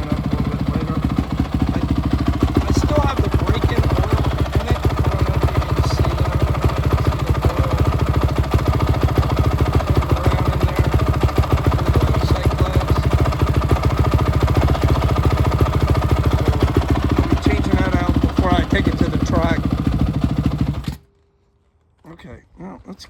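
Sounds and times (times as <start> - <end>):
dirt bike engine idling: 0.0 - 21.1.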